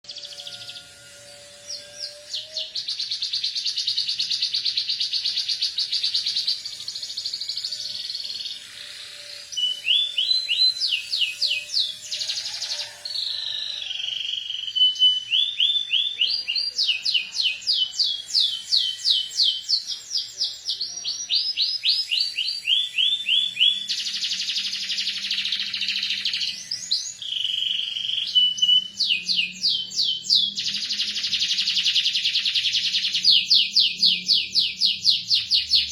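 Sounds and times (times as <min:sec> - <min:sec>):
canary singing: 0:00.0 - 0:35.9.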